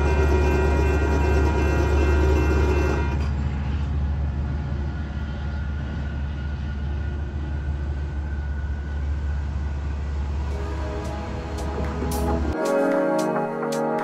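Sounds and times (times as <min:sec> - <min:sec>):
train rumble: 0:00.0 - 0:13.6.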